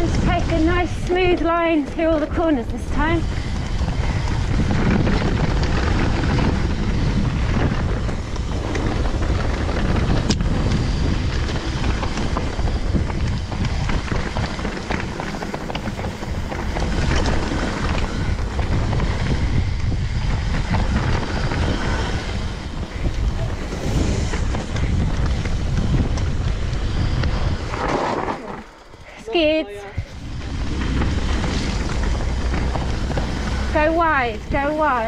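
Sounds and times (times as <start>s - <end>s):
bike clicks and rattles: 0.0s - 35.0s
bike tyres rolling on rough trail: 0.0s - 35.0s
wind buffeting microphone: 0.0s - 35.0s.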